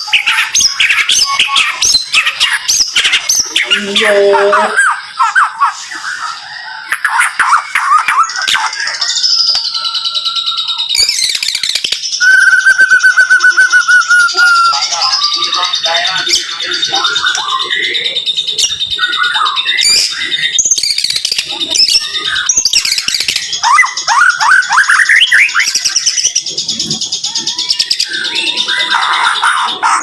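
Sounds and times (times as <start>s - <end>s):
songbird whistling and trilling: 0.0s - 30.0s.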